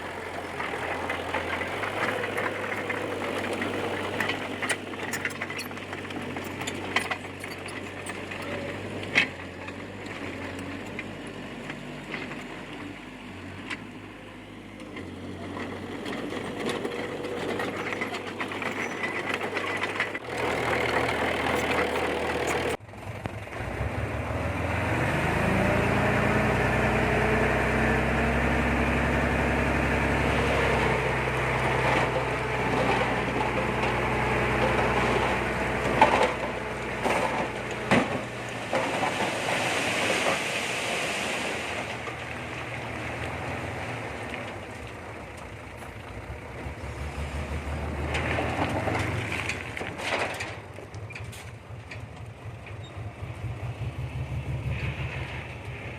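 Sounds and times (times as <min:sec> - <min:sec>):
bulldozer diesel engine revving: 0:00.0 - 0:50.6, 0:51.3 - 0:55.9.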